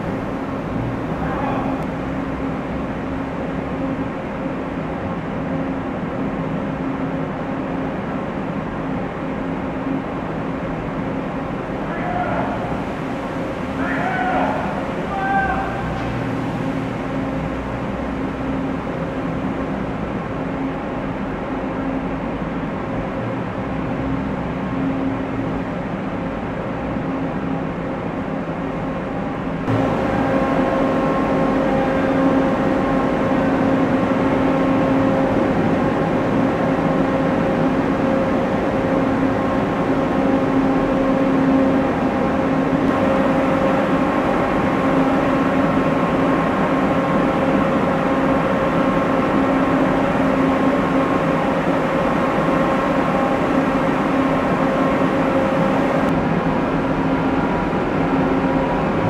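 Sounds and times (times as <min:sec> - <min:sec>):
vehicle engines droning: 0:00.0 - 0:07.3, 0:10.1 - 0:59.0.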